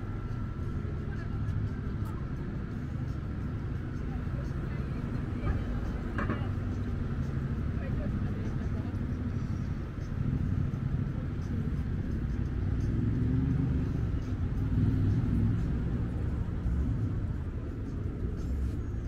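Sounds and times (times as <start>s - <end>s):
cars driving past: 0.0s - 19.0s
faint voices: 0.0s - 19.0s.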